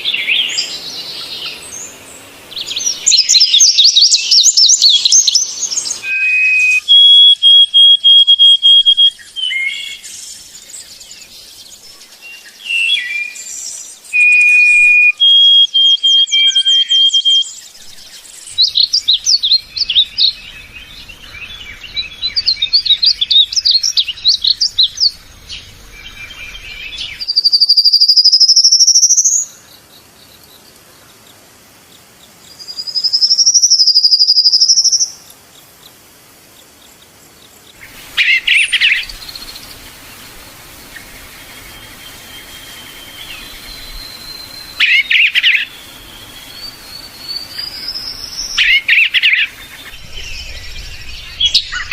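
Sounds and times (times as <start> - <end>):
birds singing: 0.0 - 51.9
faint background hiss: 0.0 - 51.9
loud whistled bird notes: 2.6 - 29.5, 32.7 - 35.2, 37.8 - 51.9.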